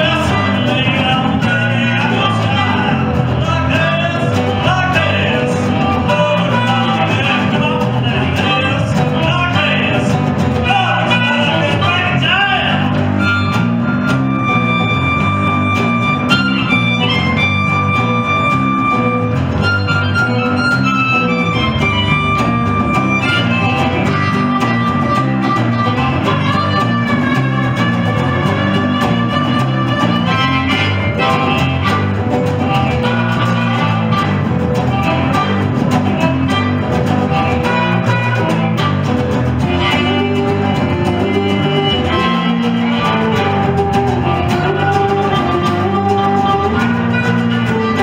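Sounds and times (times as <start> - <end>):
bass guitar: 0.0 - 48.0
harmonica lead: 0.0 - 48.0
strummed resonator guitar: 0.0 - 48.0.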